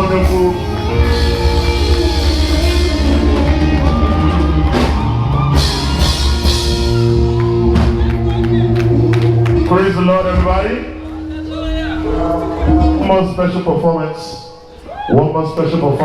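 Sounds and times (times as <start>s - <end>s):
drum kit: 0.0s - 13.4s
band music: 0.0s - 16.0s
low bass notes: 0.0s - 16.0s.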